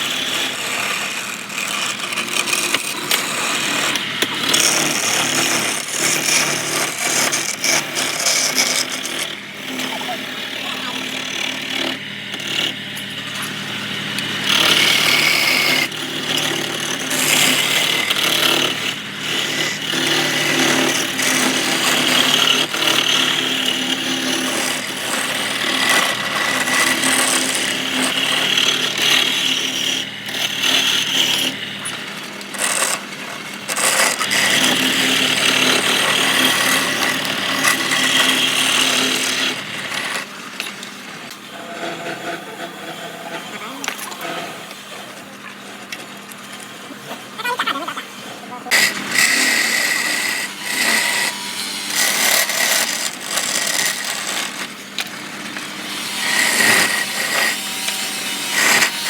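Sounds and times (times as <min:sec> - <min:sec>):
lathe motor hum: 0:00.0 - 0:59.0
turning tool cutting wood: 0:00.0 - 0:59.0.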